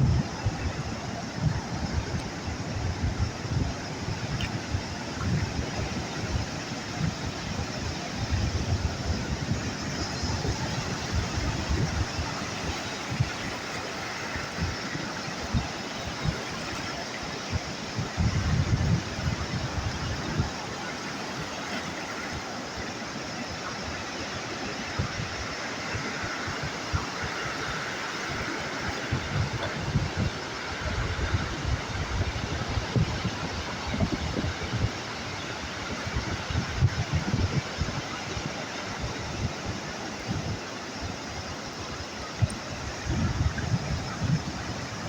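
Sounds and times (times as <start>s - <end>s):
sea waves and surf: 0.0s - 45.0s
wind on microphone: 0.0s - 45.0s.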